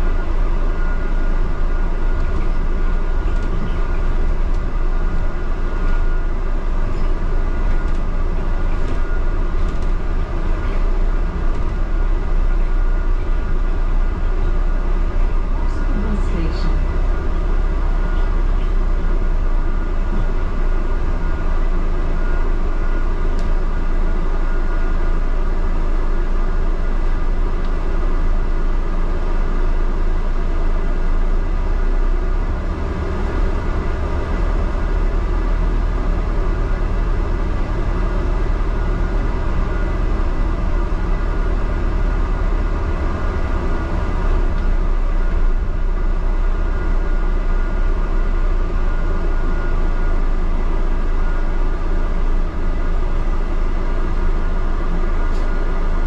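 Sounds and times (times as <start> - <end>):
bus engine and road rumble: 0.0 - 56.0
constant hum: 0.0 - 56.0.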